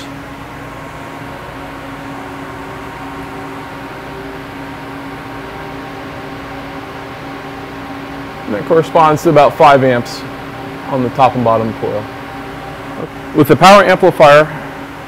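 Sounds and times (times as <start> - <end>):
electrical hum: 0.0 - 15.0
steady tones: 0.0 - 15.0.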